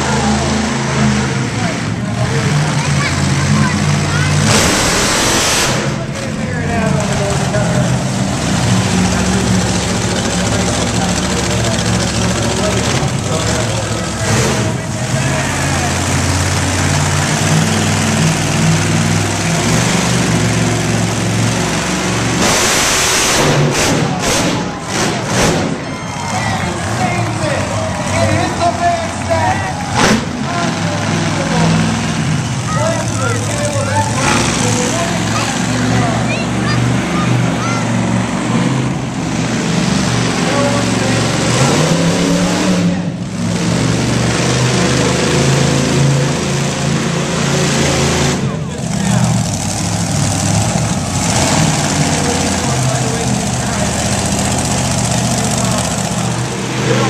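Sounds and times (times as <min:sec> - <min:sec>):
loud vehicle engine running: 0:00.0 - 0:57.0.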